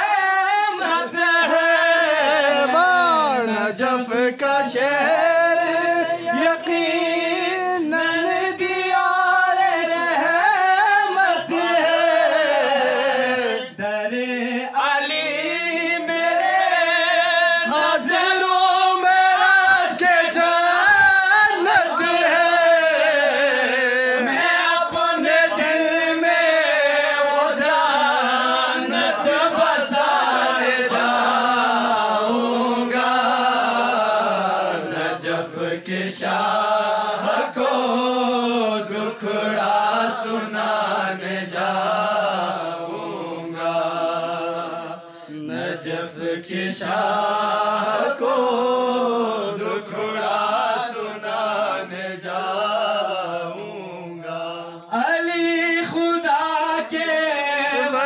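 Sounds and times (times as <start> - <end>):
man singing into a microphone: 0.0 - 58.0.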